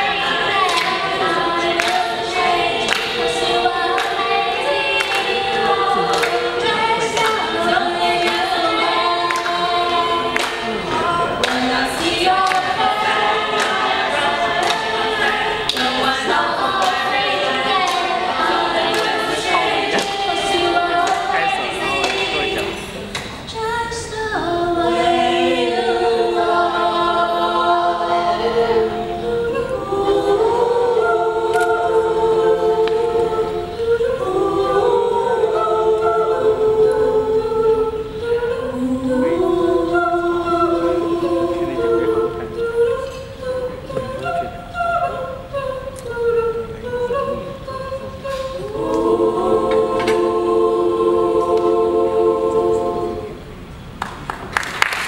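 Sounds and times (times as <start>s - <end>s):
mixed choir singing chords: 0.0s - 55.0s.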